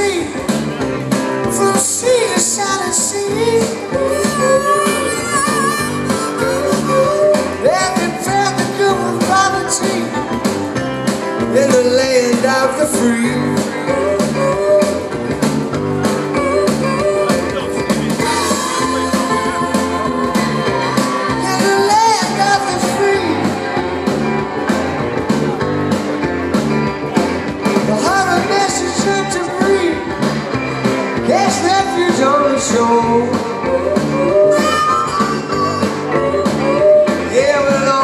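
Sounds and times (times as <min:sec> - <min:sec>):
person singing lead melody: 0:00.0 - 0:10.4, 0:11.4 - 0:25.8, 0:27.2 - 0:38.0
live rock band playing: 0:00.0 - 0:38.0.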